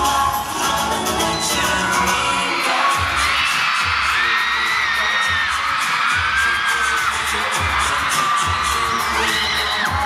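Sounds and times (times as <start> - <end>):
crowd screaming and cheering: 0.0 - 10.0
pop music bass beat: 0.0 - 10.0.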